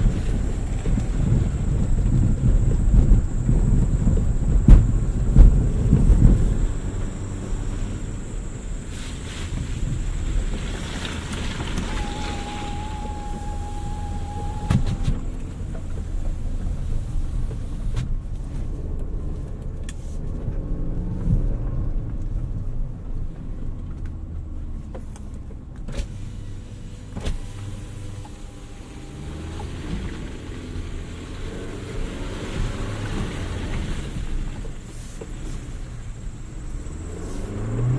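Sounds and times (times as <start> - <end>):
low engine rumble: 0.0 - 37.9.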